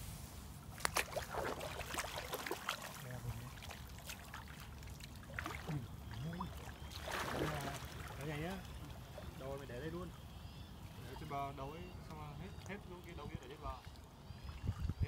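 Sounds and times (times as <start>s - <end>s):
water splashing and sloshing: 0.6s - 15.0s.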